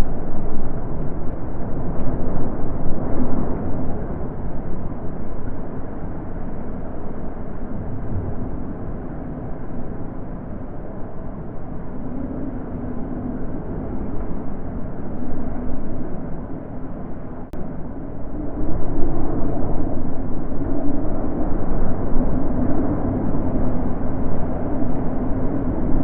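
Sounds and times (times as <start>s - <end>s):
wind gusting: 0.0s - 26.0s.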